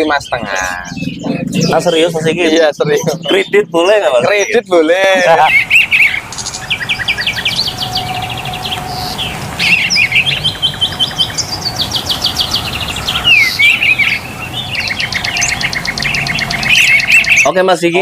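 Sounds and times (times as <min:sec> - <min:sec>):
songbirds trilling: 0:00.0 - 0:18.0.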